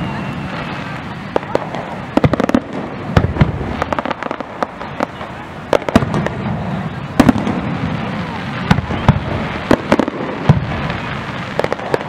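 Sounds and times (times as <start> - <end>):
fireworks bangs and pops: 0.0 - 12.0
steady background hiss: 0.0 - 12.0.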